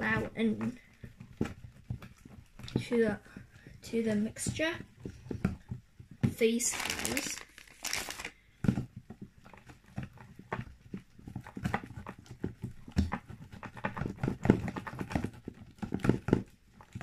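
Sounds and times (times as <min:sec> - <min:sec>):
slime being mixed: 0:00.0 - 0:17.0.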